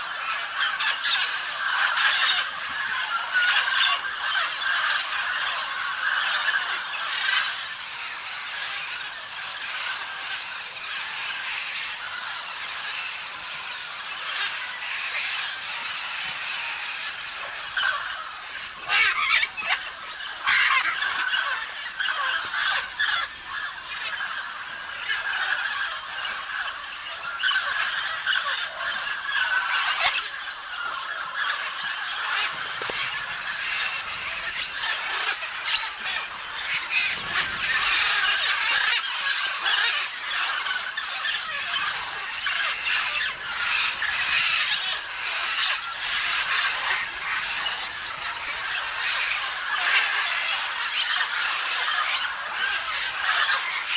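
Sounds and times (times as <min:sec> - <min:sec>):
parrots squawking: 0:00.0 - 0:53.9
steady high-pitched whine: 0:00.0 - 0:53.9.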